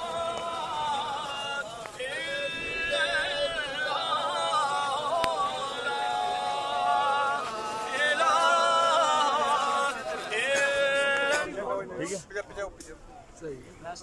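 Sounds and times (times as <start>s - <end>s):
man singing a slow chant: 0.0s - 11.6s.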